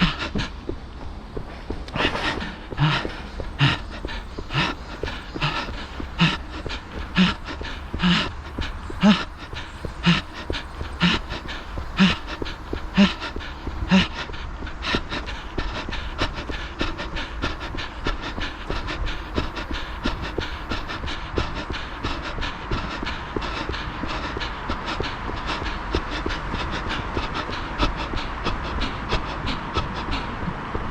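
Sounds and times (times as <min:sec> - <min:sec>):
runner breathing hard: 0:00.0 - 0:30.9
running footsteps on path: 0:00.0 - 0:30.9.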